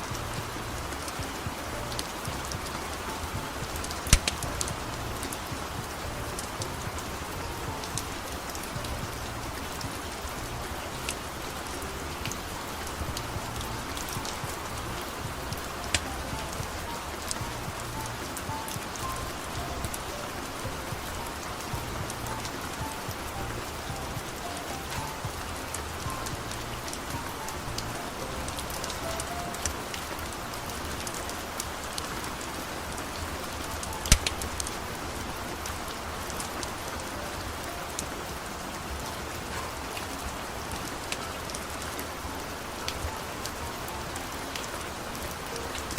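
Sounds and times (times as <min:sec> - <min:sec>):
raindrops ticking on a surface: 0:00.0 - 0:45.9
steady rain hiss: 0:00.0 - 0:45.9.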